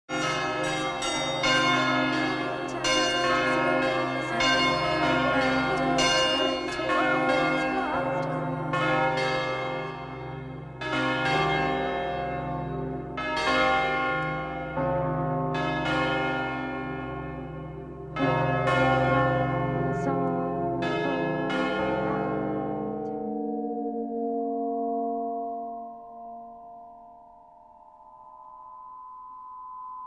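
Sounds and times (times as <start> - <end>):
bells ringing: 0.1 - 30.0.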